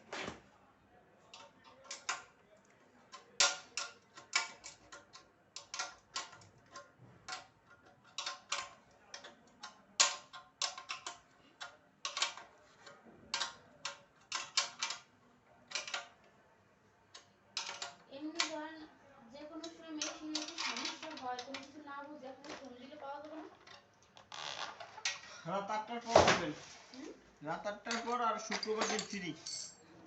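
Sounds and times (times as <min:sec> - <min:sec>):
parts and tools clicking and knocking: 0:01.3 - 0:16.4, 0:17.0 - 0:18.7, 0:19.4 - 0:25.3, 0:27.7 - 0:29.9.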